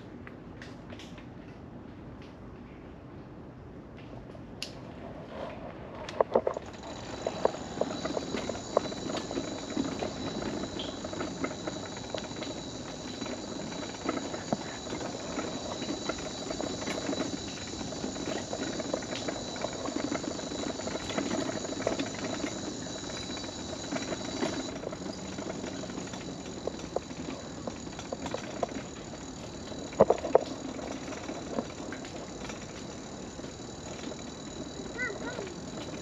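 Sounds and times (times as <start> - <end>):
wheels rattling over planks: 6.1 - 36.0
high-pitched whine: 6.4 - 36.0.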